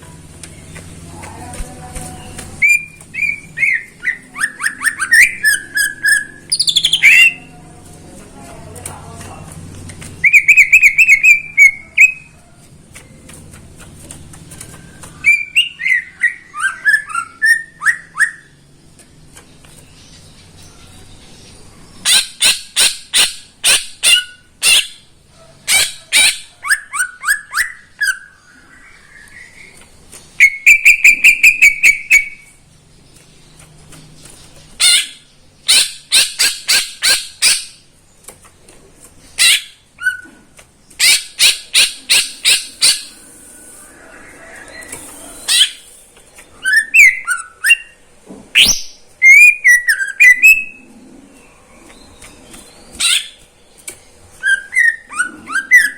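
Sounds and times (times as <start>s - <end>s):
bird singing varied song: 0.1s - 38.6s, 39.2s - 55.9s.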